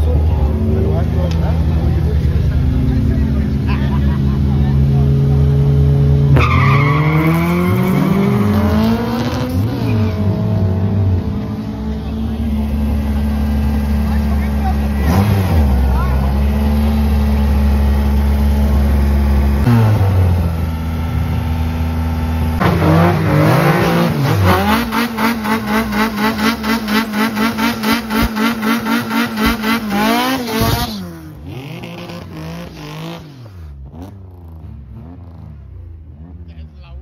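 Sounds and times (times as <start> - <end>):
drag car engine revving: 0.0 - 37.0.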